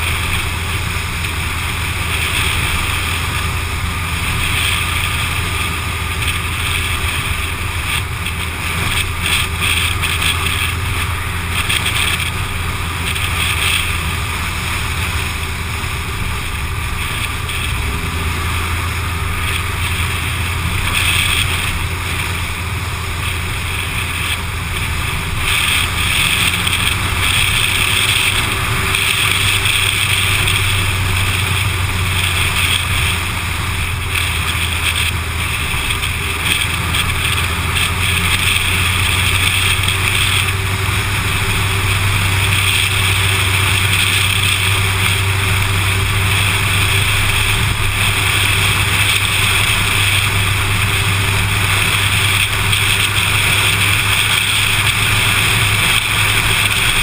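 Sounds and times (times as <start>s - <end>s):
low engine drone: 0.0s - 57.0s
wind and tyre noise: 0.0s - 57.0s.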